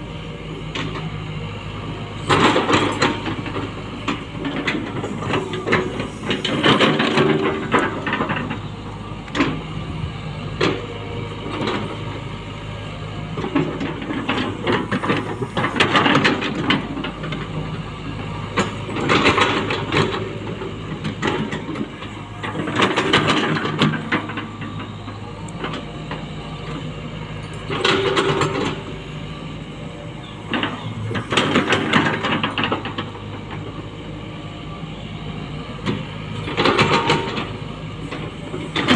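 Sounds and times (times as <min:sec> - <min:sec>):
excavator engine droning: 0:00.0 - 0:38.9.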